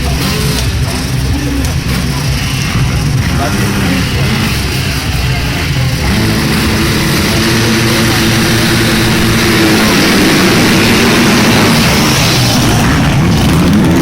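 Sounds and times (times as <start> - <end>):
approaching motorbike engine: 0.0 - 14.0
motocross bike engines: 0.0 - 14.0.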